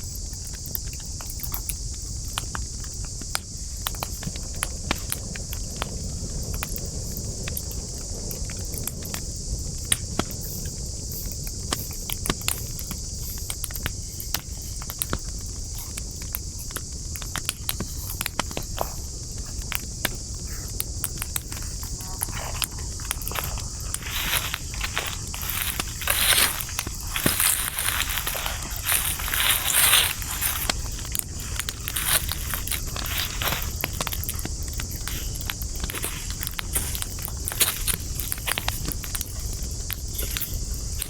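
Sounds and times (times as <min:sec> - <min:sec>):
wood campfire crackling: 0:00.0 - 0:41.0.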